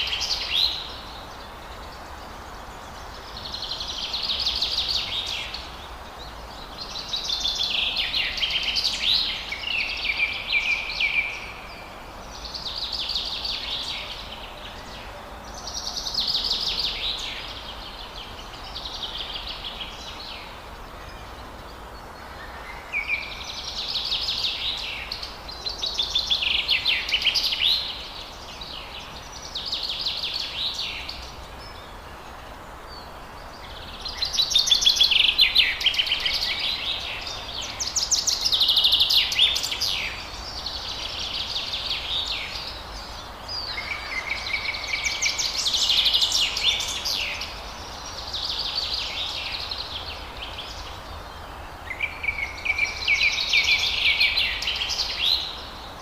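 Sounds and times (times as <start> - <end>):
birds singing: 0.0 - 56.0
steady background hiss: 0.0 - 56.0.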